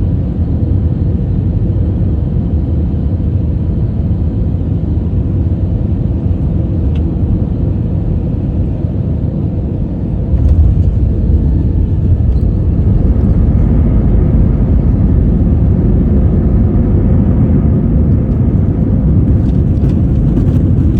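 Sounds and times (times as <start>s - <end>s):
airliner rumbling: 0.0s - 20.9s.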